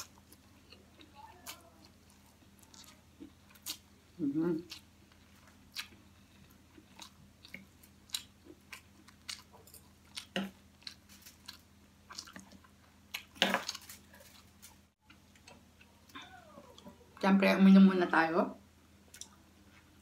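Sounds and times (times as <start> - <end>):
chewing with crunches: 0.0 - 17.1.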